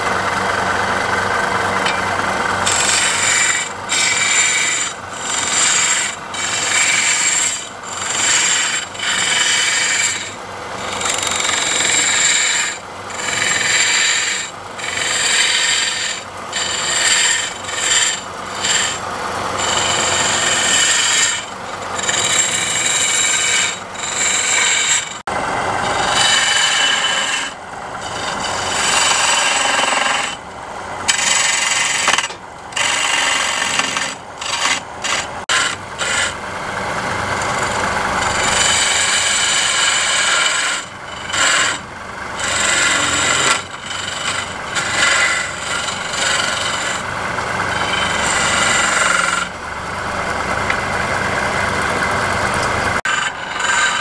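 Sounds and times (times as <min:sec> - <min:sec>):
chisel shaving wood on lathe: 0:00.0 - 0:54.0.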